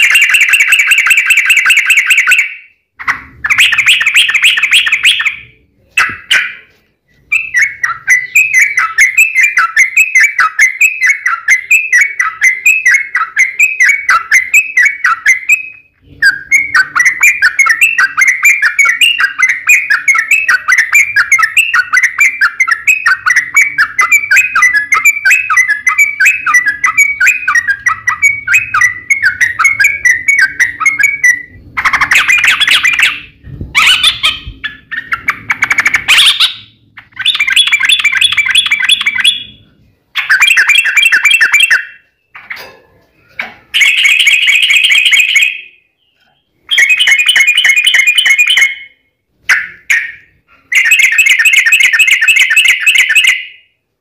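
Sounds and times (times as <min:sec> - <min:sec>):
bulbul singing: 0:00.0 - 0:53.8.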